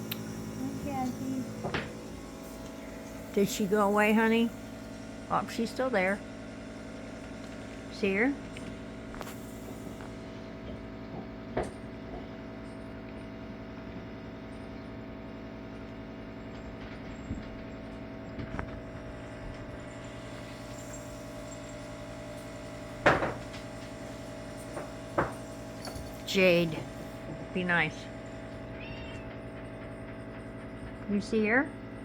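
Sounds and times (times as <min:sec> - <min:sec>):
indoor mechanical hum: 0:00.0 - 0:32.0.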